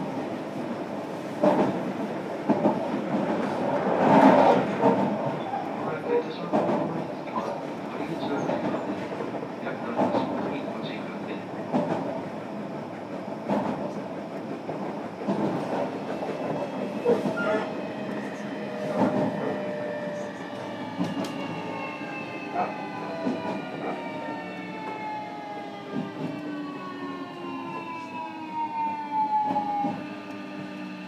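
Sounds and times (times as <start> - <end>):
train running rumble: 0.0 - 28.1.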